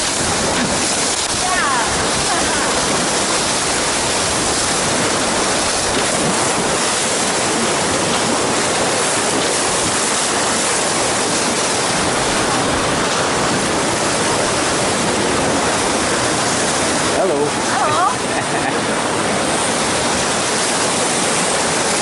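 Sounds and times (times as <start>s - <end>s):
whitewater rushing: 0.0s - 22.0s.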